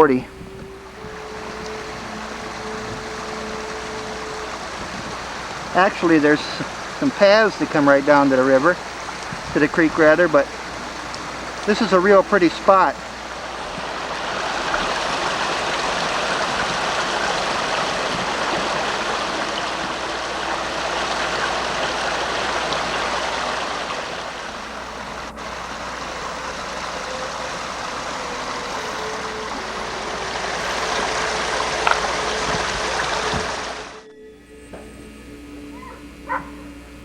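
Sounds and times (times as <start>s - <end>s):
creek water flowing: 0.0s - 34.1s, 35.6s - 36.8s.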